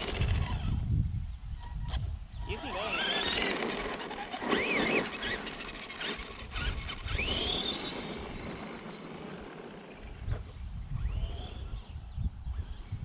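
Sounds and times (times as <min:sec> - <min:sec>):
electric motor whining: 0:00.0 - 0:00.9, 0:01.7 - 0:12.9.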